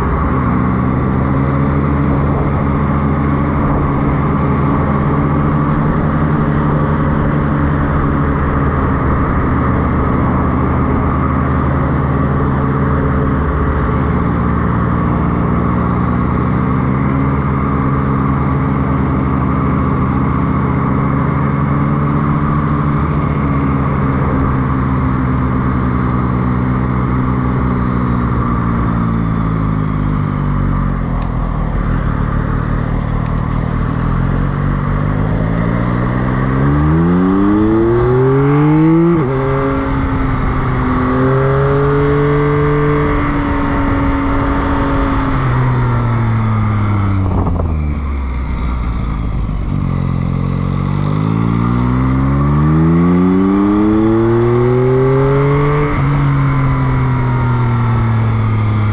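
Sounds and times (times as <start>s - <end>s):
motorcycle engine revving: 0.0s - 58.9s
wind and road noise: 0.0s - 58.9s.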